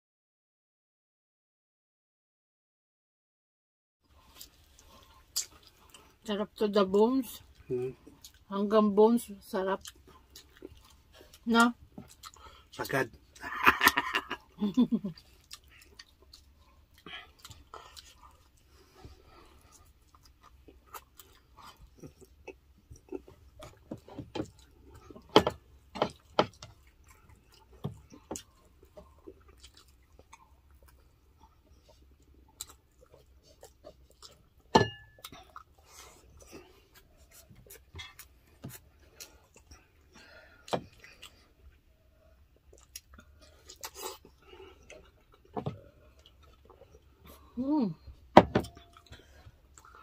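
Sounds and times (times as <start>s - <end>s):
wet chewing: 4.1s - 6.3s, 7.4s - 8.5s, 9.5s - 50.0s.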